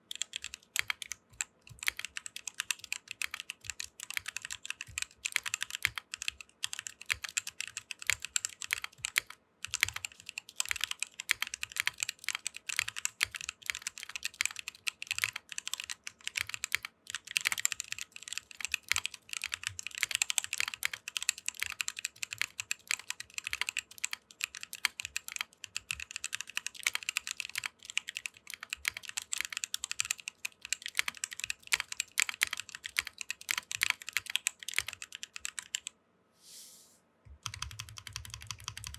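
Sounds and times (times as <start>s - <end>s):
mechanical keyboard typing: 0.1s - 35.9s, 37.4s - 38.9s.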